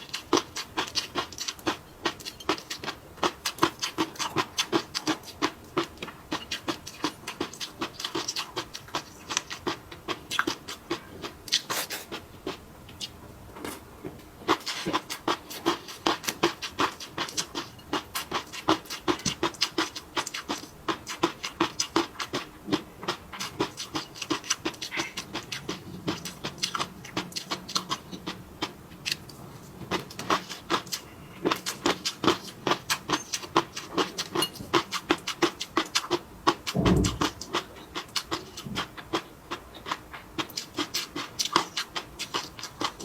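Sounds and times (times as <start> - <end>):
chewing and mouth smacking: 0.0 - 13.8, 14.4 - 43.0.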